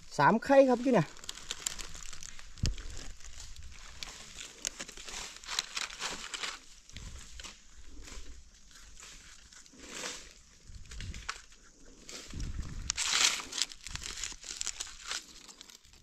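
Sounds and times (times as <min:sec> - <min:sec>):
dry leaves crackling and rustling: 0:00.0 - 0:16.0.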